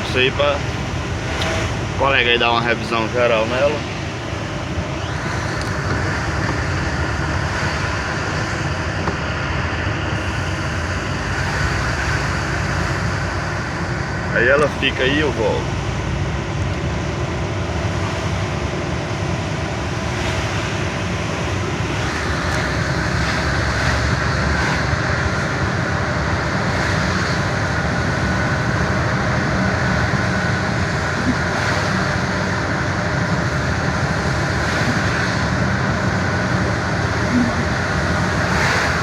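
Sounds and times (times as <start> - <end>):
road and wind noise: 0.0 - 39.0
truck engine drone: 0.0 - 39.0.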